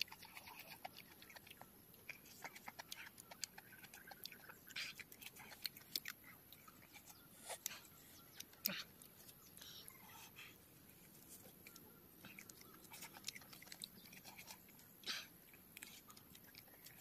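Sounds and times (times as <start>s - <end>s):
open-mouthed chewing: 0.0s - 17.0s.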